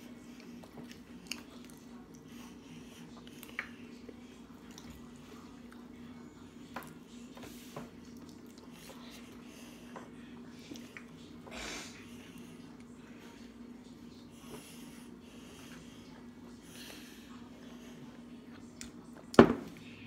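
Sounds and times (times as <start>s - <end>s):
children chewing: 0.0s - 19.3s
low room hum: 0.0s - 20.0s.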